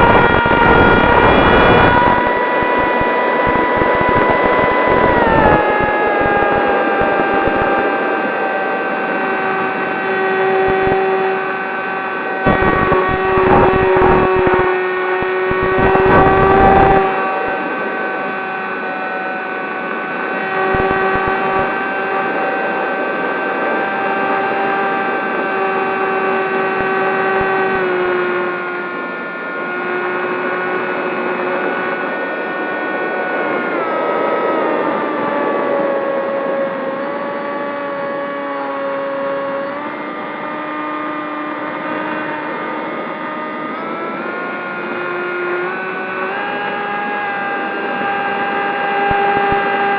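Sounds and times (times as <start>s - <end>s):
wind buffeting microphone: 0.0s - 38.6s, 39.7s - 49.9s
model plane motor whining: 0.0s - 49.9s.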